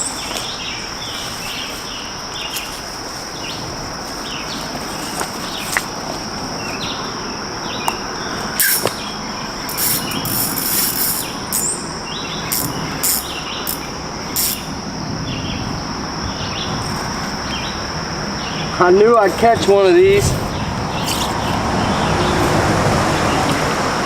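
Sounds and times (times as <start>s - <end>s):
birds chirping: 0.0s - 24.0s
constant hiss: 0.0s - 24.0s
insects droning: 0.0s - 24.0s.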